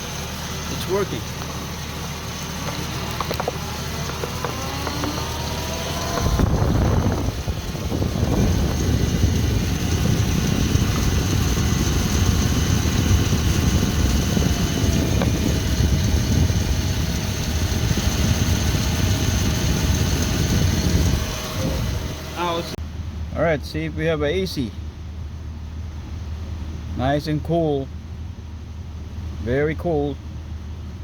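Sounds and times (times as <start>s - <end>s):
ac compressor running: 0.0s - 27.0s
truck engine idling: 0.0s - 31.0s.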